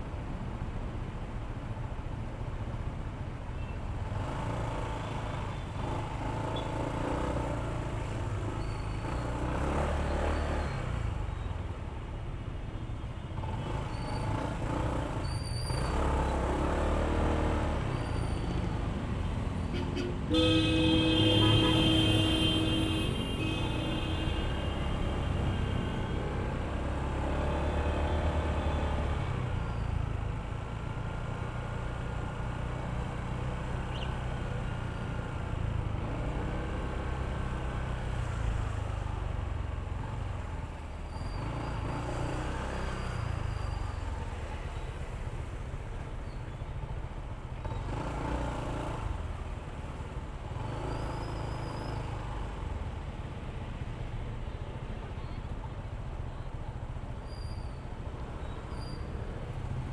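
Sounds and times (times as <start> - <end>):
road and traffic noise: 0.0 - 59.9.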